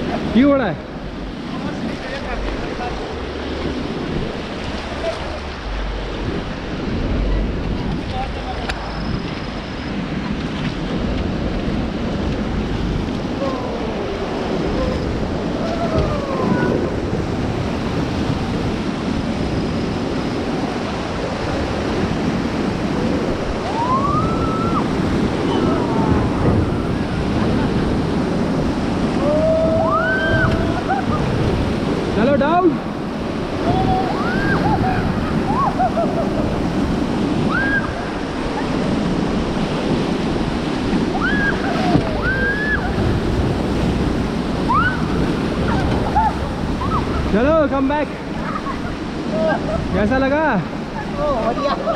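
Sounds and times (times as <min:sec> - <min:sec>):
river rushing through rapids: 0:00.0 - 0:51.9.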